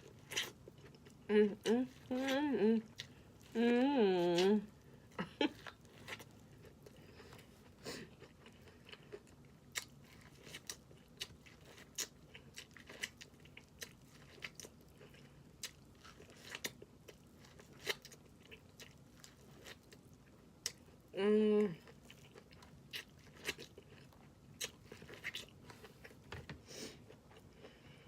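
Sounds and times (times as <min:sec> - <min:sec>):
chewing and smacking: 0:00.0 - 0:03.6, 0:04.3 - 0:21.1, 0:21.8 - 0:27.8.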